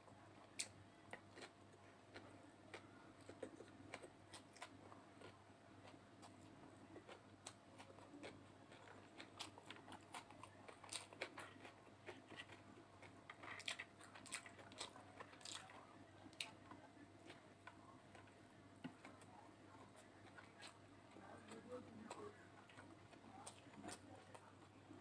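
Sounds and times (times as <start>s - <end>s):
person chewing and biting: 0.6s - 20.9s.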